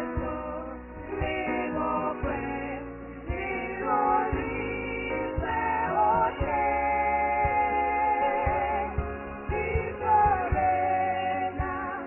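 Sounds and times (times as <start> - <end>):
low thumping beat: 0.0 - 12.0
women singing gospel in harmony: 0.0 - 12.0.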